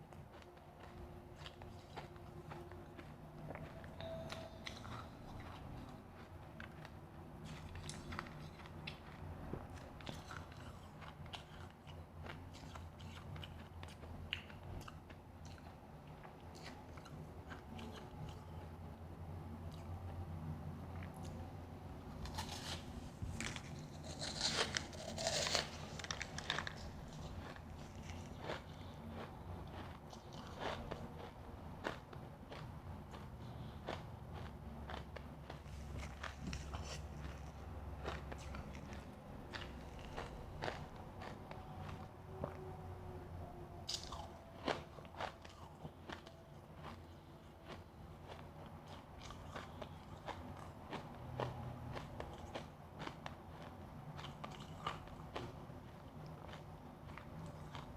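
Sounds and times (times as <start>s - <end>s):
person chewing crunchy ice: 0.0s - 18.7s, 22.2s - 42.6s, 43.8s - 57.9s
low steady hum: 0.0s - 57.9s.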